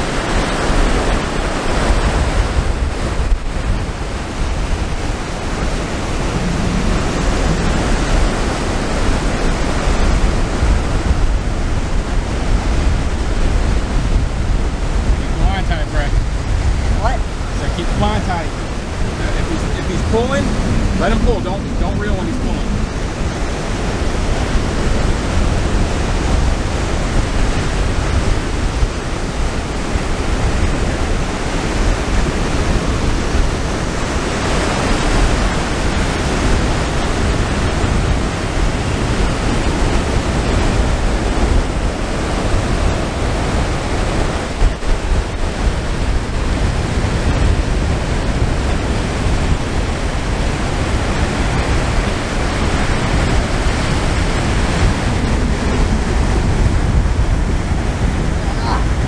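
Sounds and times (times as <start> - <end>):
ocean surf washing in: 0.0 - 59.0
wind buffeting the microphone: 0.0 - 59.0.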